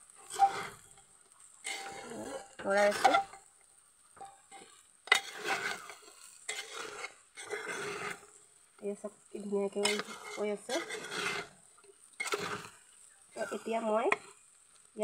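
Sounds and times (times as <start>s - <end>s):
faint sizzle: 0.0s - 15.0s
metal ladle scraping pot: 0.1s - 3.5s, 4.2s - 8.4s, 9.6s - 14.4s.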